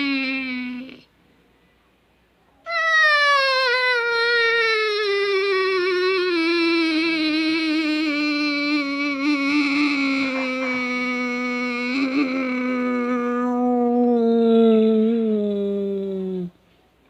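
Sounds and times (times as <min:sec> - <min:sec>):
wavering cat-like wail: 0:02.7 - 0:16.6.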